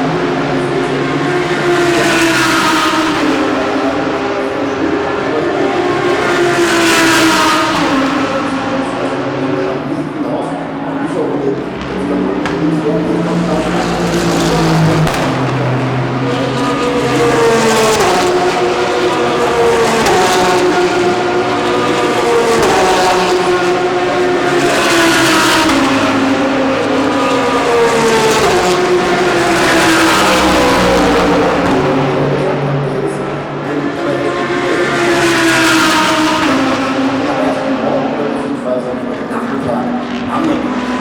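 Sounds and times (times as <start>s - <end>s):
race cars passing at speed: 0.0s - 41.0s.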